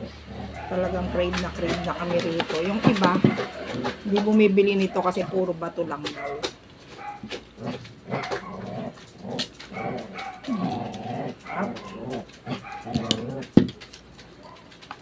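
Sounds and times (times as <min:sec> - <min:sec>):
oyster shells clicking and scraping: 0:00.9 - 0:15.0.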